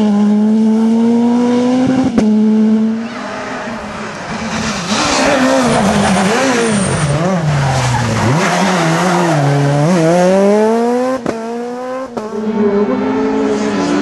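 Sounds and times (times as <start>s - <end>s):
rally car engine at full effort: 0.0s - 14.0s.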